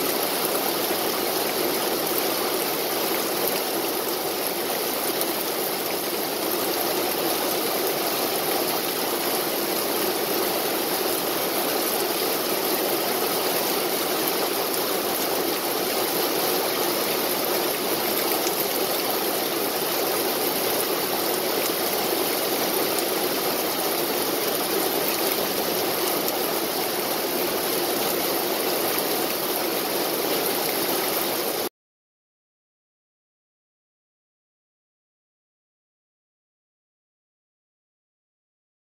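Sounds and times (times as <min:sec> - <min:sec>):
rain on foliage: 0:00.0 - 0:31.7.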